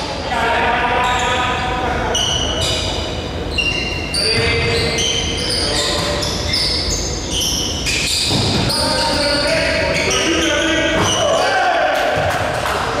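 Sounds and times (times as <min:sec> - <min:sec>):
din of hall: 0:00.0 - 0:13.0
sneakers squeaking: 0:00.0 - 0:13.0
voices: 0:00.0 - 0:13.0.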